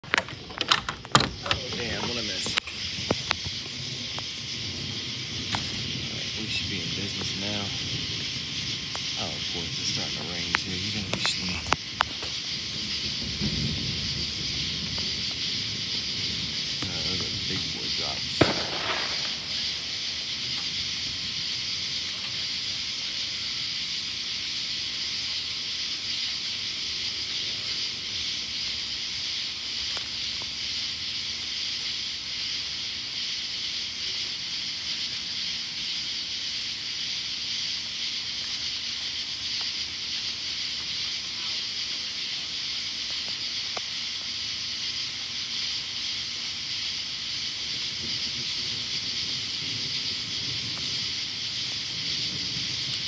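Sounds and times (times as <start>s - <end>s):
chorus of night insects: 0.0s - 53.0s
higher pulsing insect call: 0.0s - 53.0s.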